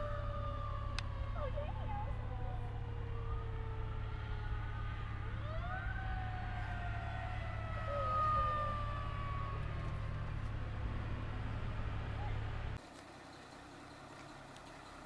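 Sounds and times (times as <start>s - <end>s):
fire engine siren wailing: 0.0s - 12.8s
engine and traffic rumble: 0.0s - 15.0s.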